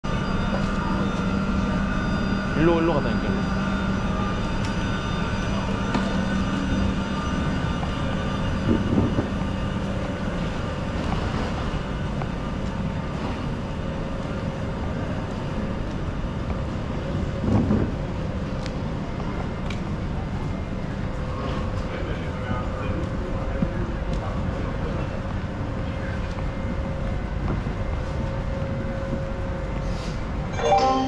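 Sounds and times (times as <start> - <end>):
train hum and rumble: 0.0 - 31.0.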